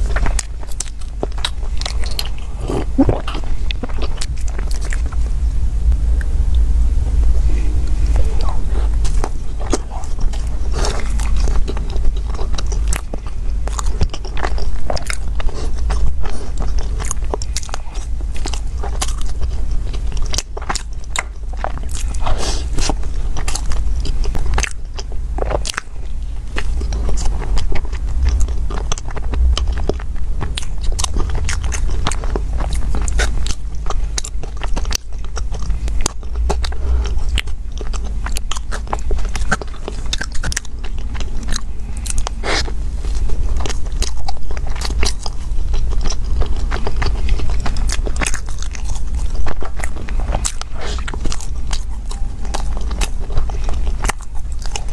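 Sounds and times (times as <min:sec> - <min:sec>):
crusty bread biting and chewing: 0:00.0 - 0:05.4, 0:07.4 - 0:54.9
steady low hum: 0:00.0 - 0:54.9.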